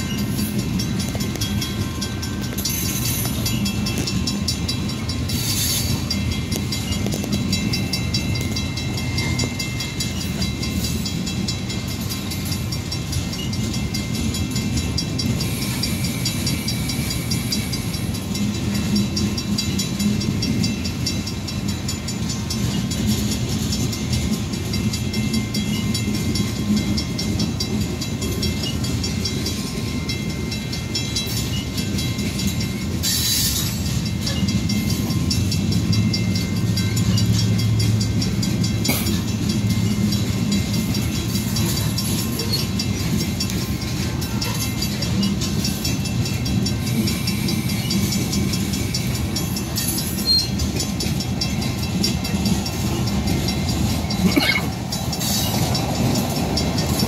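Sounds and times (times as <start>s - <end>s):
regular ticking of train wheels: 0.0s - 57.0s
train wheels rumbling on rails: 0.0s - 57.0s.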